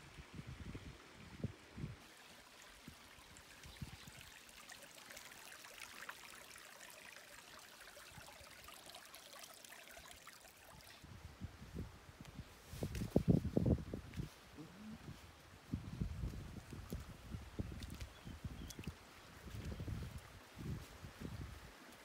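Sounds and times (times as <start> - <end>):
stream trickling over rocks: 0.0 - 11.1, 12.1 - 22.0.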